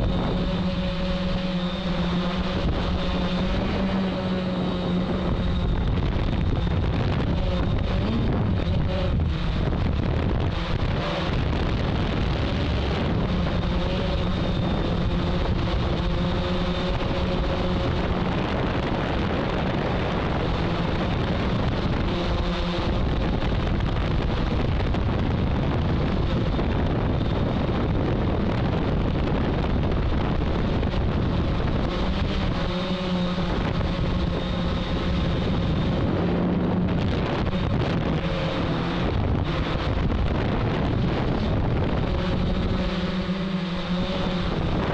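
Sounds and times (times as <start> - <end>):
drone motors buzzing: 0.0 - 44.9
wind noise on microphone: 0.0 - 44.9.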